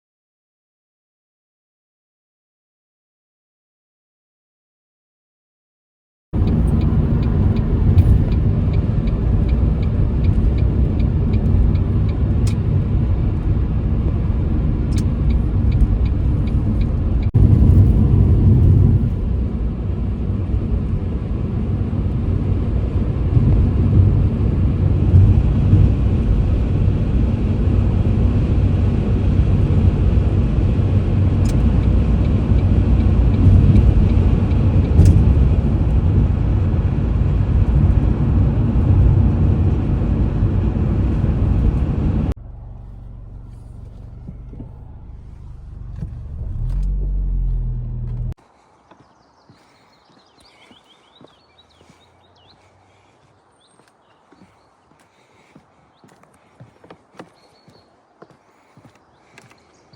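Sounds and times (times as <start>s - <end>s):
car engine and tyre rumble: 6.4s - 59.9s.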